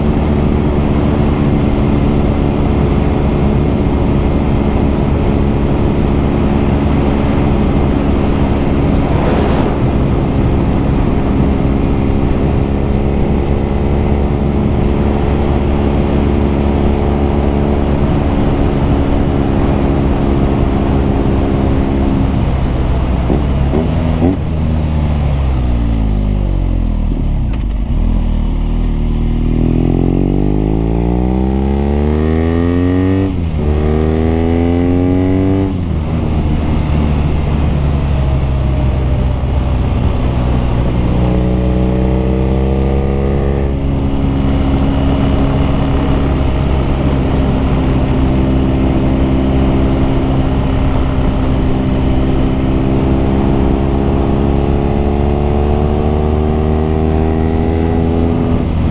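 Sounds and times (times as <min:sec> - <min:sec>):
motorcycle engine and exhaust: 0:00.0 - 0:58.9.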